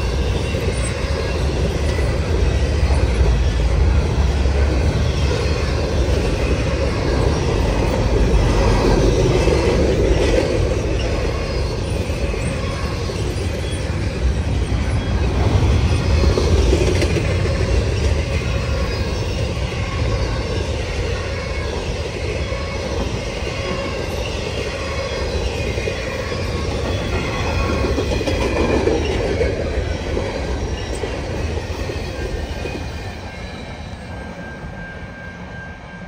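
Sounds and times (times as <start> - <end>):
freight train wheels clattering: 0.0 - 34.9.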